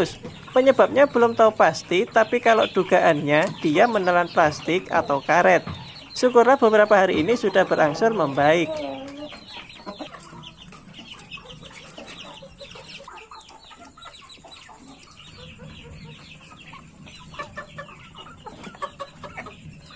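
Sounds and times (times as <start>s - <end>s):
chick peeps: 0.0s - 19.9s
chickens clucking: 0.0s - 19.9s.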